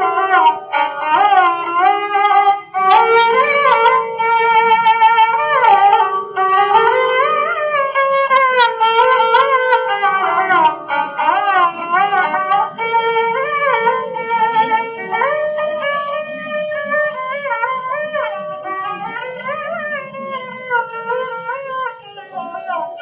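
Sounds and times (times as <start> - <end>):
ornamented melody with sliding notes: 0.0 - 23.0
plucked strings: 0.0 - 23.0.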